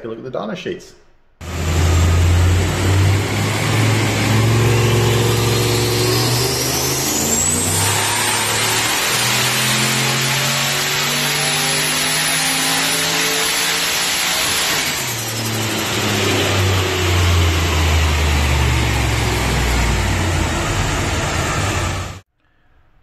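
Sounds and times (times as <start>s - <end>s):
turbocharged engine revving: 1.4s - 22.3s.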